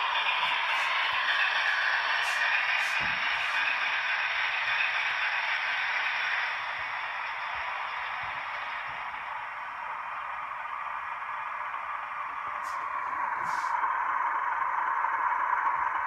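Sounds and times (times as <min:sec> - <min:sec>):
model train whirring: 0:00.0 - 0:16.0.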